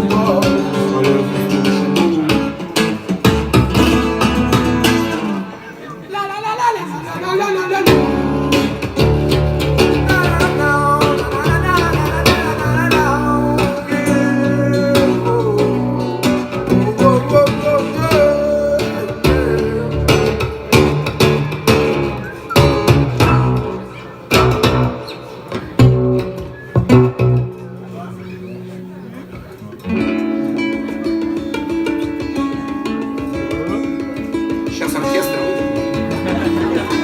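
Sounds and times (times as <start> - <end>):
bass guitar: 0.0 - 5.5, 7.9 - 37.0
lead guitar with bending notes: 0.0 - 5.7, 7.8 - 37.0.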